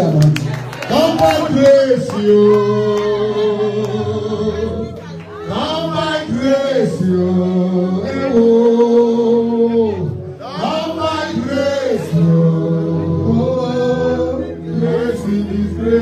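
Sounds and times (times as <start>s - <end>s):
voices singing held notes: 0.8s - 16.0s.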